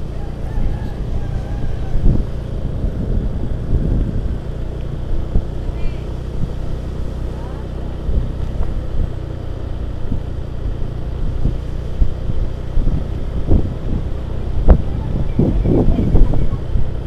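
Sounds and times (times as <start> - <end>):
scooter engine running: 0.0 - 17.0
wind noise on microphone: 0.0 - 17.0.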